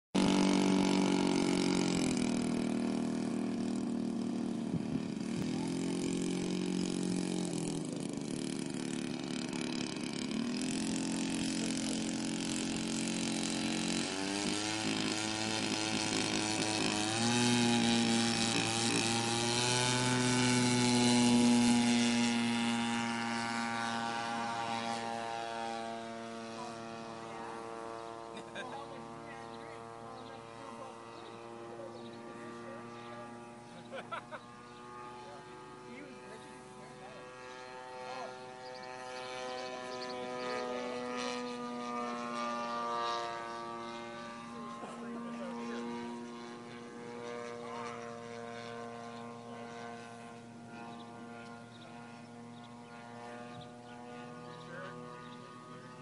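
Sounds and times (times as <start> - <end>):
model plane engine: 0.2 - 56.0.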